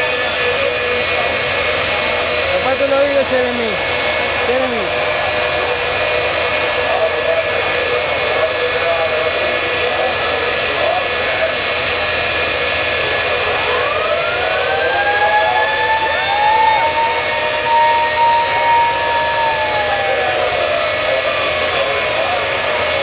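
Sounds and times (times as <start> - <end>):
jet turbine engines roaring: 0.0 - 23.0
rising turbine whine: 0.0 - 23.0.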